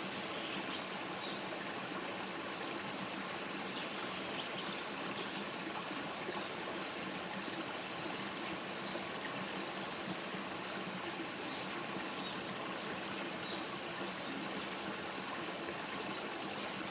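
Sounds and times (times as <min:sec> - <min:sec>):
stream water trickling: 0:00.0 - 0:16.9.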